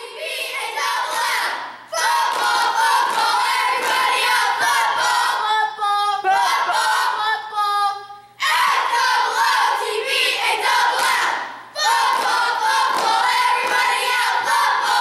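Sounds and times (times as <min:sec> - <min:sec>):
girls chanting a cheer: 0:00.0 - 0:15.0.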